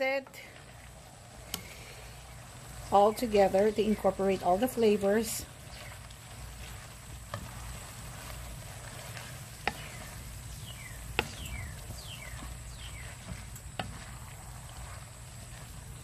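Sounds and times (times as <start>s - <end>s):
low steady hum: 0.0s - 16.0s
spatula scraping a pan: 0.0s - 16.0s.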